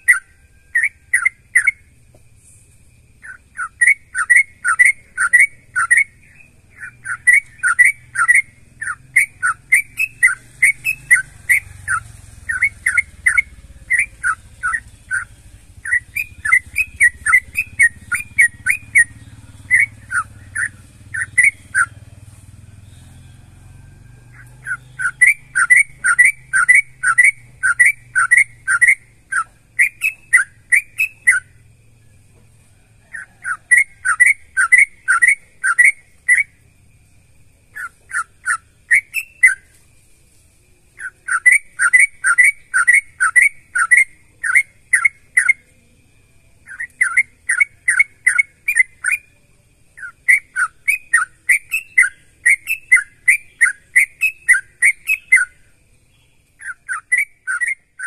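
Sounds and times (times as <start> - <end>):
bird whistling song: 0.0 - 39.9, 40.7 - 58.0.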